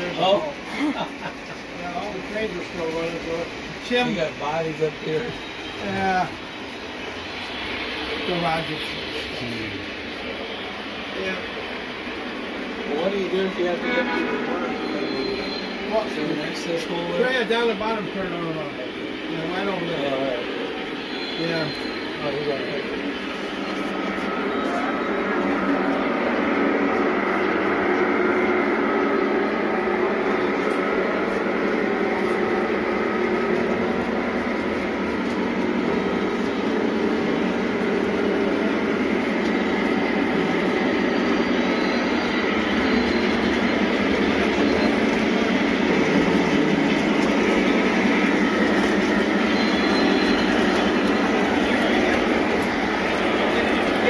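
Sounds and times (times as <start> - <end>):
model trains rolling on track: 0.0 - 54.0.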